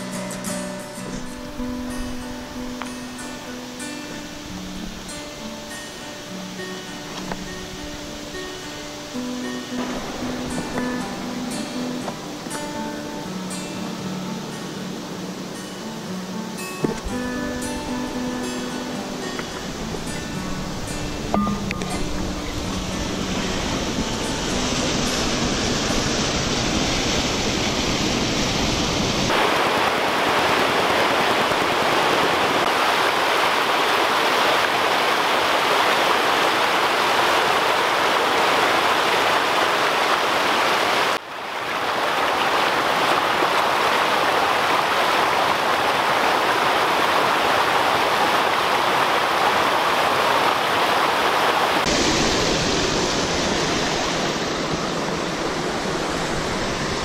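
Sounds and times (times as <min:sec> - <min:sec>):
water rushing over boulders: 0:00.0 - 0:57.0.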